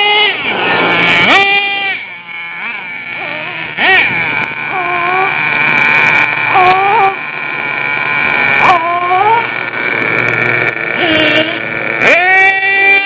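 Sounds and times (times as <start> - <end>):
small nitro engines whining: 0.0 - 13.0.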